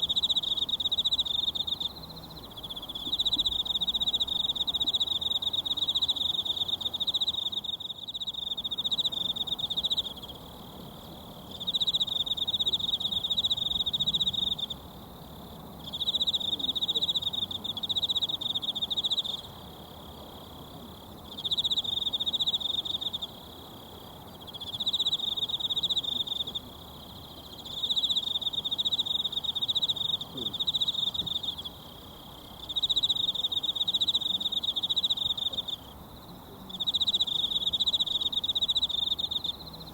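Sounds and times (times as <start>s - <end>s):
insect trilling: 0.0s - 14.8s, 21.3s - 39.9s.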